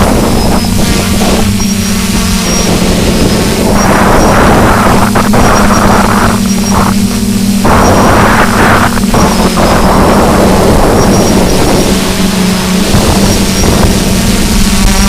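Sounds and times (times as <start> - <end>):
drone propellers humming: 0.0 - 15.0
wind buffeting microphone: 0.0 - 15.0.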